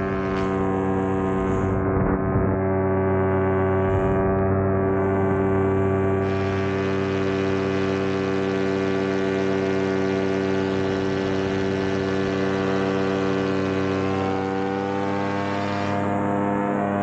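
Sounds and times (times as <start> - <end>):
paramotor engine droning: 0.0 - 17.0.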